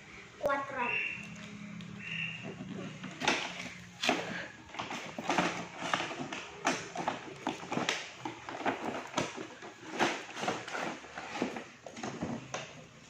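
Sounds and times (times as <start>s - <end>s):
packaging crackling and rustling: 2.5s - 13.0s.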